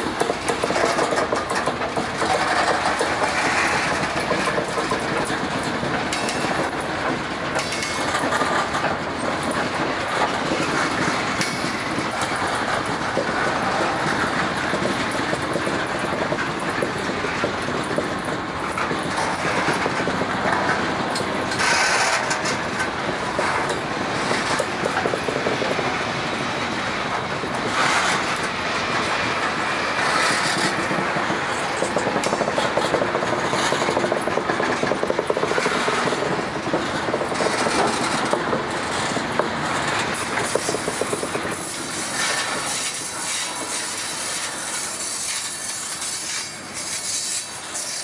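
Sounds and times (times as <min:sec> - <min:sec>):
freight train rolling on rails: 0:00.0 - 0:48.0.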